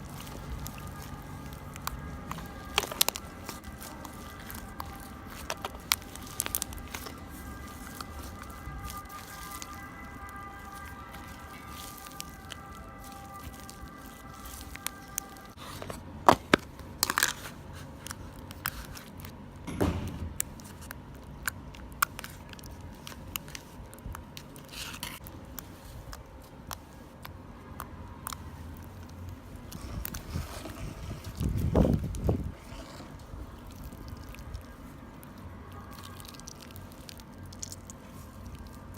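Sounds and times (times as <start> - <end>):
slime popping and crackling: 0.0 - 15.6, 16.3 - 38.9.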